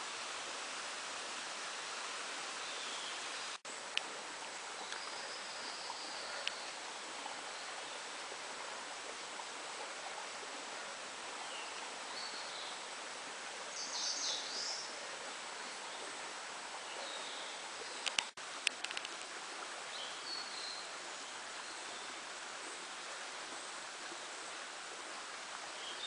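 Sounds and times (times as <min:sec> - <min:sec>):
stream rushing: 0:00.0 - 0:26.0.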